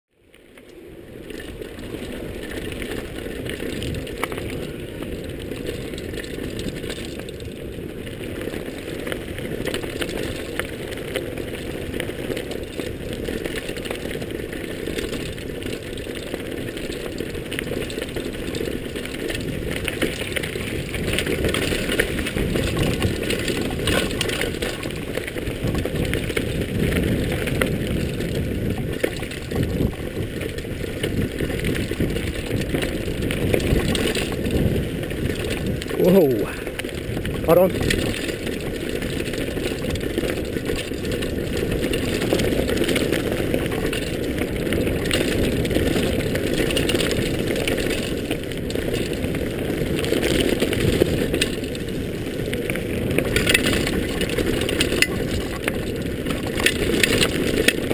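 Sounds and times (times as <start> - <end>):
bike rattling over bumps: 0.1 - 57.9
wind rumbling on microphone: 0.2 - 57.9
tyres crunching over gravel: 0.3 - 57.9.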